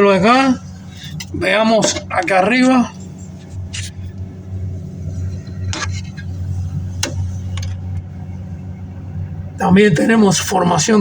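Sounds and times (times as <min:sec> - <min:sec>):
refrigerator humming: 0:00.0 - 0:11.0.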